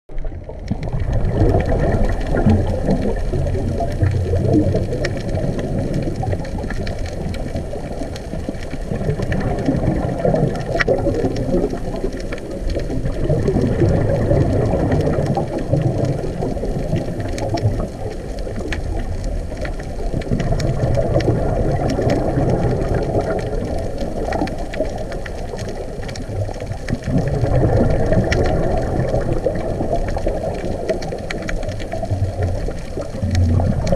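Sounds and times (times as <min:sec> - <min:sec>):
faint clicks: 0:00.1 - 0:33.9
underwater bubbles rumbling: 0:00.1 - 0:33.9.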